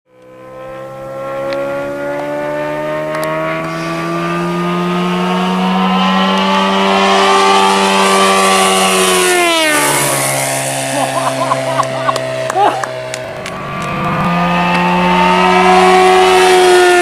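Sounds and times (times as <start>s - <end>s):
model aircraft engine drone: 0.1s - 17.0s.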